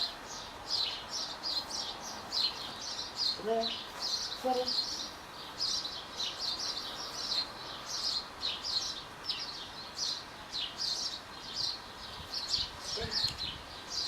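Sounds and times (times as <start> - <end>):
faint background hiss: 0.0 - 14.0
small birds chirping: 0.0 - 14.0.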